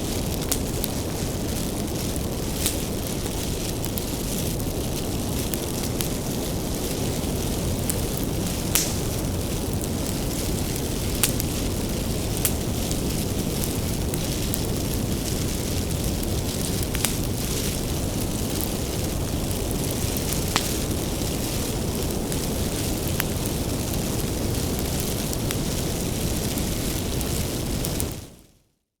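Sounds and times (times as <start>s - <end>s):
firewood crackling and popping: 0.0s - 28.4s
low rumble of flames: 0.0s - 28.5s.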